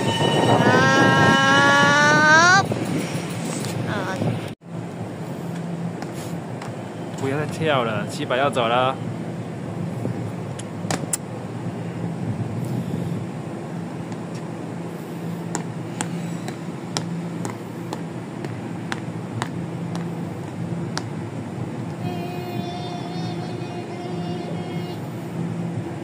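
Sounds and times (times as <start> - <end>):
electric train running rumble: 0.0 - 26.0.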